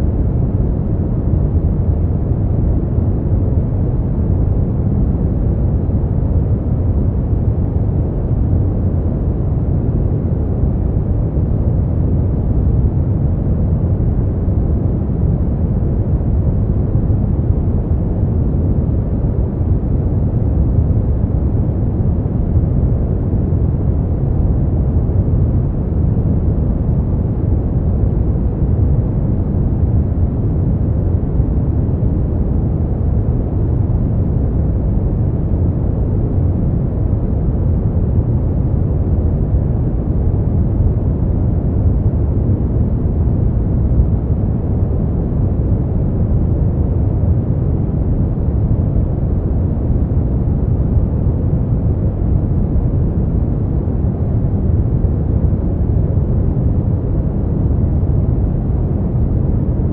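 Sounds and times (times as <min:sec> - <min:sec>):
deep rumbling brown noise: 0:00.0 - 0:59.9.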